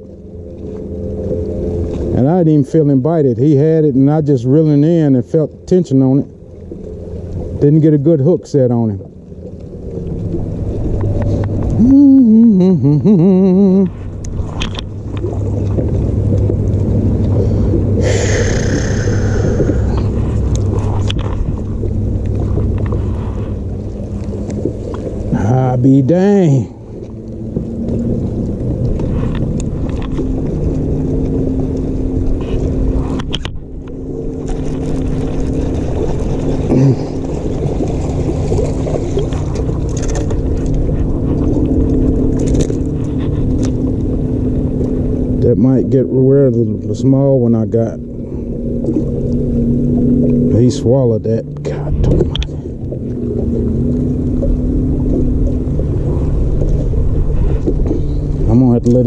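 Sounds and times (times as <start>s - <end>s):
faint hum: 0.0s - 59.0s
wind rumbling on microphone: 0.0s - 59.0s.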